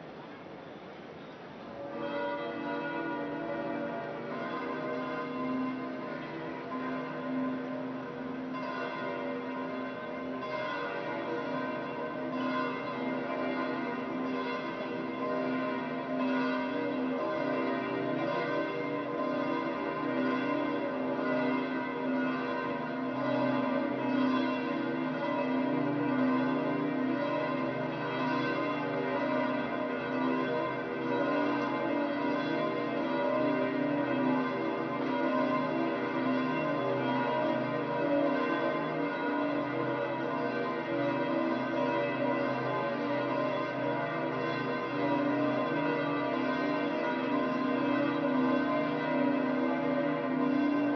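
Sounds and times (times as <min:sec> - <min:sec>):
church bells pealing: 0:01.7 - 0:50.9.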